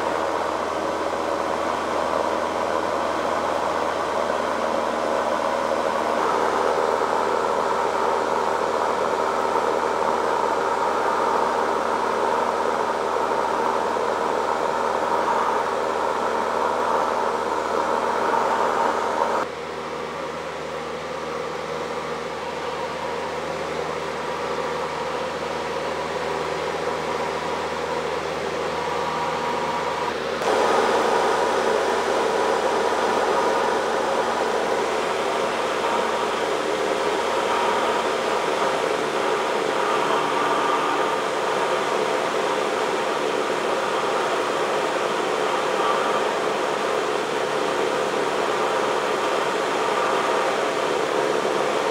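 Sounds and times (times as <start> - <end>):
propeller plane engine drone: 0.0 - 51.9.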